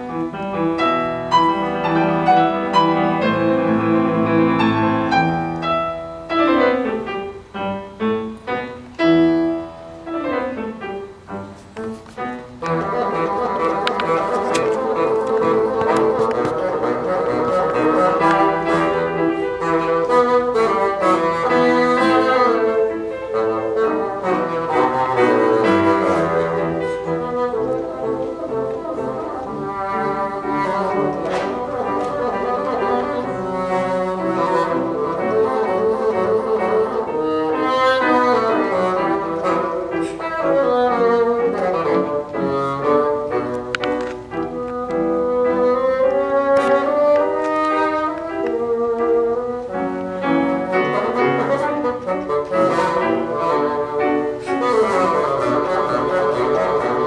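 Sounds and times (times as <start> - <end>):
bassoon playing: 0.0 - 57.0
piano accompaniment: 0.0 - 57.0.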